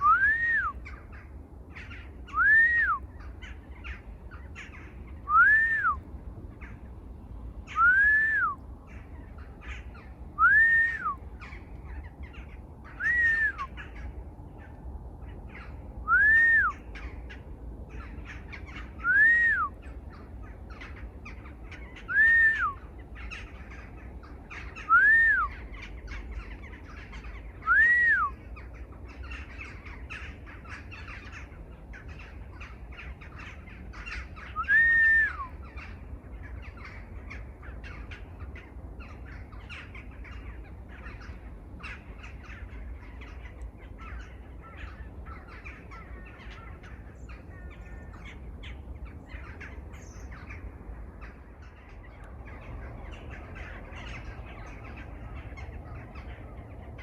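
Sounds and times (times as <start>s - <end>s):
loud clear bird calls: 0.0s - 57.0s
many birds chirping: 0.0s - 57.0s
steady low rumble: 0.0s - 57.0s.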